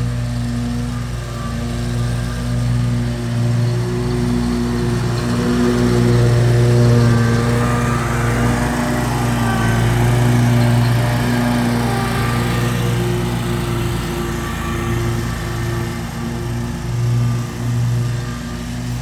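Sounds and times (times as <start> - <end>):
riding mower engine running: 0.0 - 19.0.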